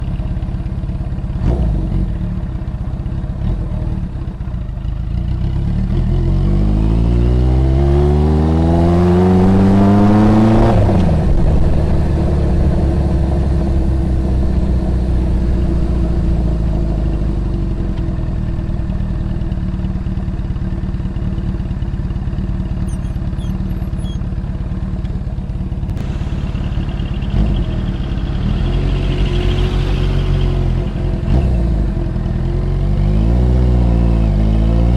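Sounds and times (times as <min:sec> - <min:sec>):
motorcycle engine revving: 0:01.2 - 0:34.9.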